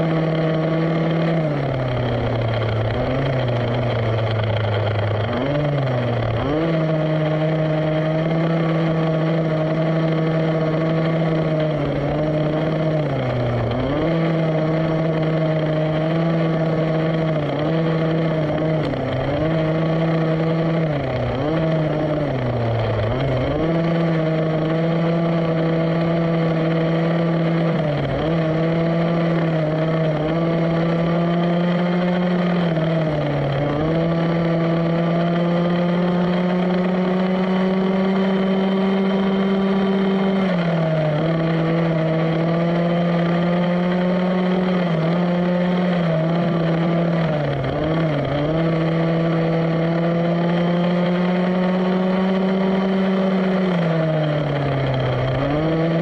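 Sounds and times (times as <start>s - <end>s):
small two-stroke engine revving: 0.0s - 56.0s.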